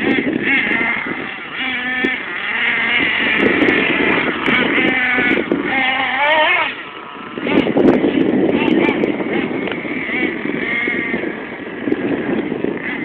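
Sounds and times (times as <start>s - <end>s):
buggy engine revving high: 0.0s - 13.0s.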